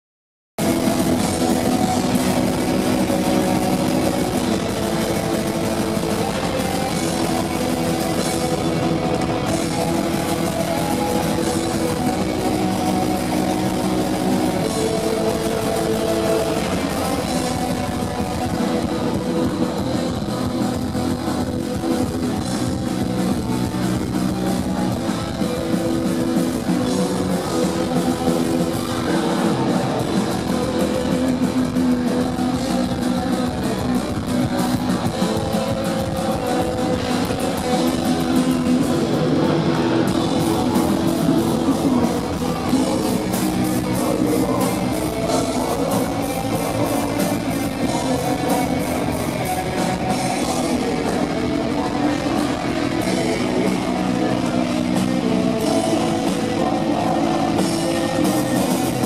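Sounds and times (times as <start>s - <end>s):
heavy metal band playing live: 0.6s - 59.0s.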